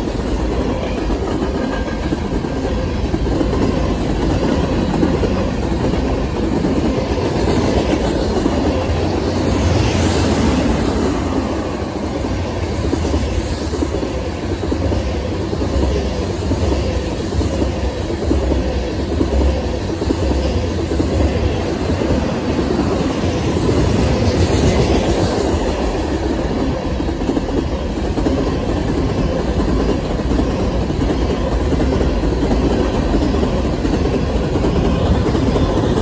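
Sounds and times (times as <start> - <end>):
freight train rumbling past: 0.0 - 36.0
steel wheels clattering on rails: 0.0 - 36.0.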